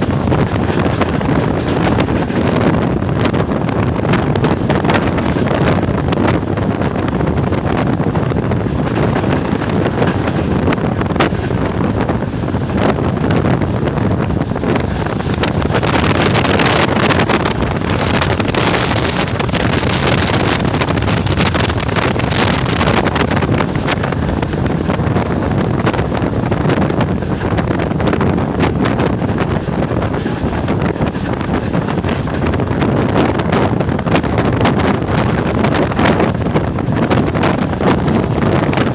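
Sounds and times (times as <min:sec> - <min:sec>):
train coach rumbling on track: 0:00.0 - 0:38.9
wind buffeting microphone: 0:00.0 - 0:38.9.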